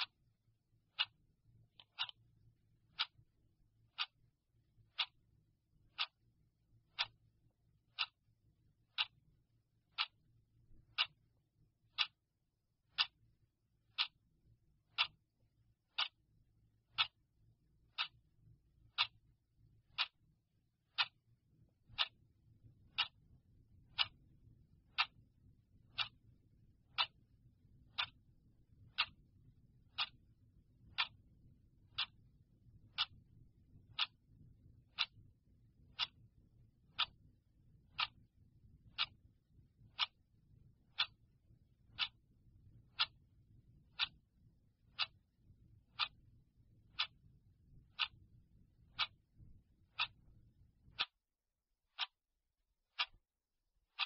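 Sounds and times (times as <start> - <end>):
clock ticking: 0.0 - 54.0.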